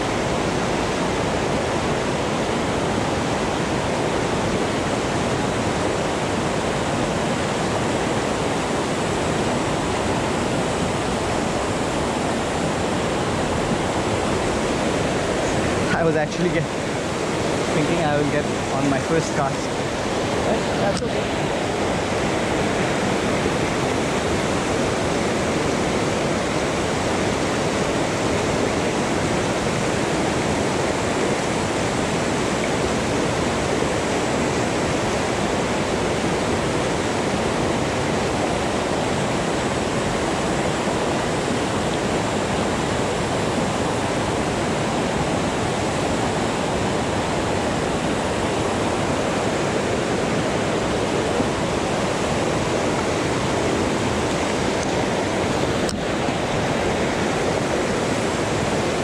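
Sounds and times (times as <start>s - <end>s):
river rapids rushing over rocks: 0.0s - 59.0s.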